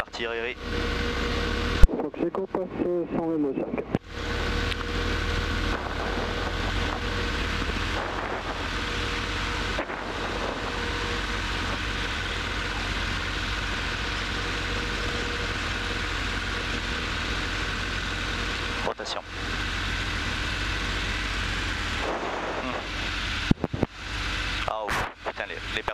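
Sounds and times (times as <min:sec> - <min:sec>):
light aircraft engine and propeller: 0:00.0 - 0:25.9.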